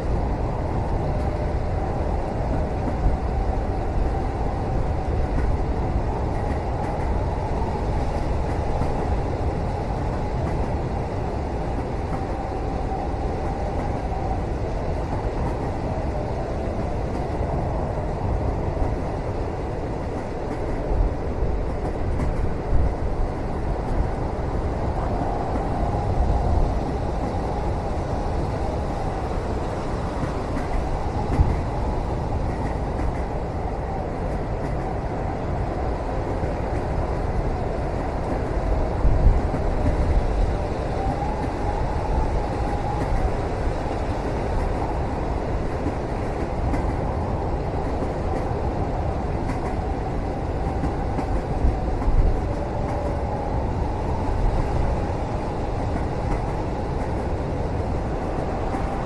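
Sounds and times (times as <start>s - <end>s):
train rumbling from inside cabin: 0.0s - 59.0s.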